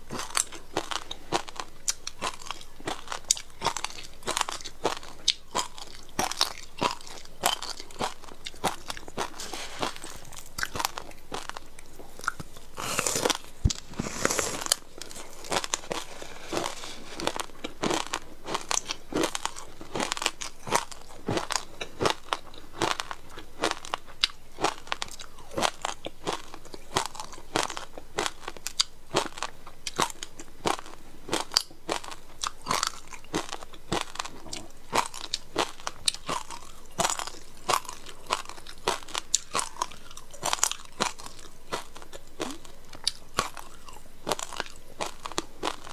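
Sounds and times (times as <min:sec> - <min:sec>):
person crunching and chewing ice: 0:00.0 - 0:45.9.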